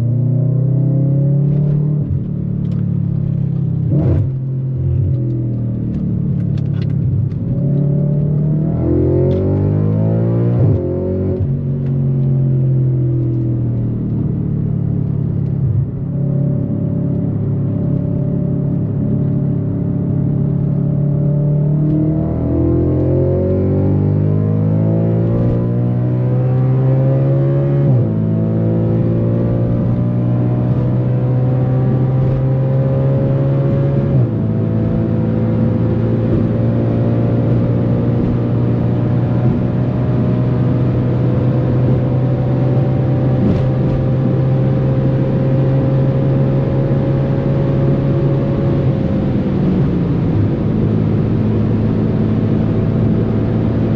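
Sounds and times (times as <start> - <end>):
car engine accelerating hard: 0.0 - 53.9.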